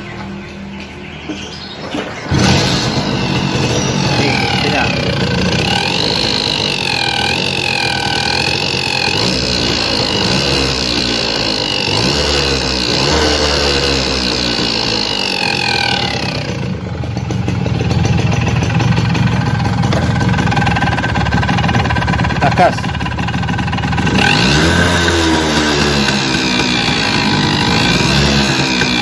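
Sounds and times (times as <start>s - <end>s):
two-stroke engine running: 1.9s - 29.0s.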